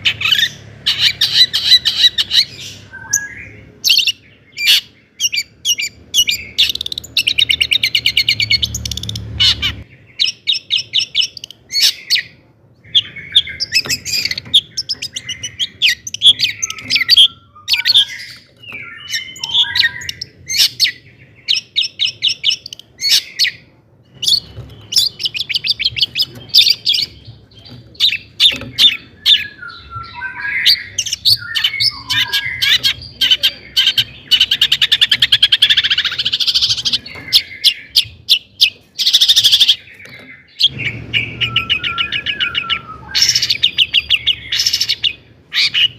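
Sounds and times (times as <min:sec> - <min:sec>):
shrike singing trills: 0:00.0 - 0:45.9.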